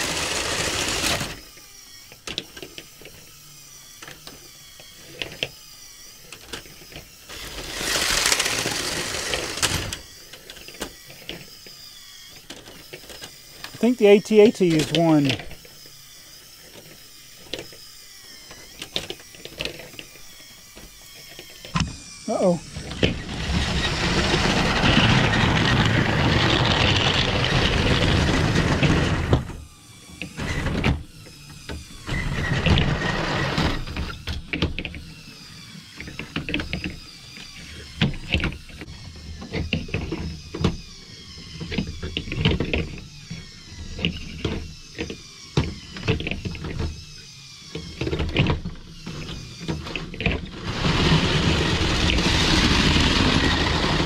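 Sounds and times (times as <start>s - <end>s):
small electric motor whines: 0.0s - 54.0s
toy train running on track: 0.0s - 54.0s.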